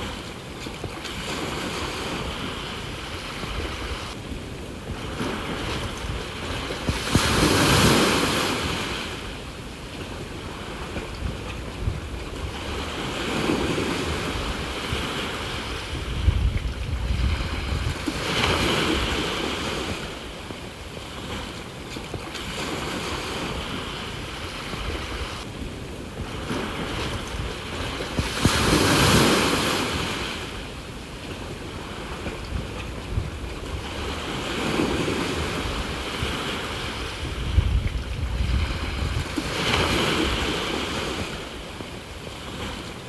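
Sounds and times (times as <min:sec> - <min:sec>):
sea waves breaking: 0:00.0 - 0:43.0
wind rumbling on microphone: 0:00.0 - 0:43.0.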